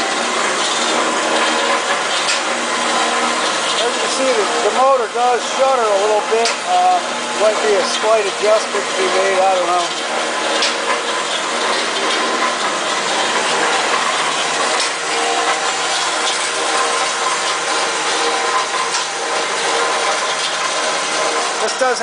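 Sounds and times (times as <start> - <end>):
band saw running: 0.0 - 22.0.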